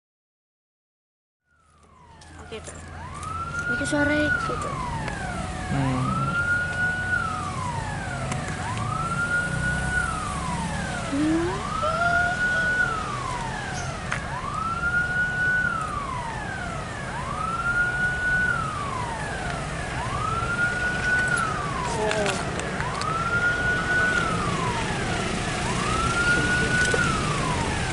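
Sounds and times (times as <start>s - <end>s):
low rumble of engines: 1.5s - 27.9s
siren wailing: 1.5s - 27.9s.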